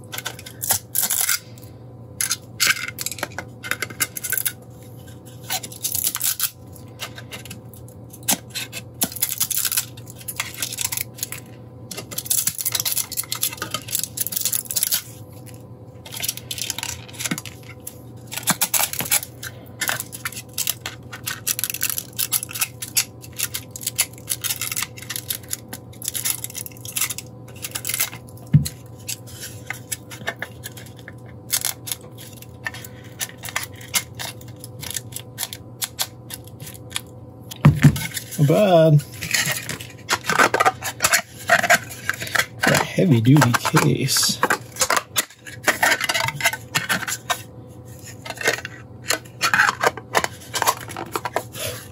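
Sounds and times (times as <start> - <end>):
plastic scraping and crackling: 8.2 - 51.9.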